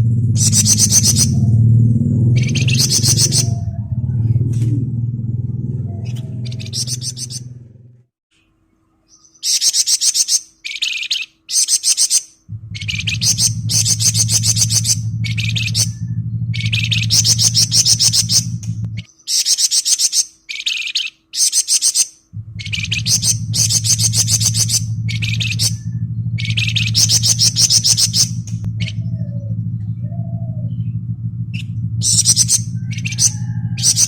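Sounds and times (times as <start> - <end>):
low steady hum: 0.0 - 9.5, 12.2 - 19.3, 22.2 - 34.0
songbird trilling: 0.4 - 7.7, 9.1 - 34.0.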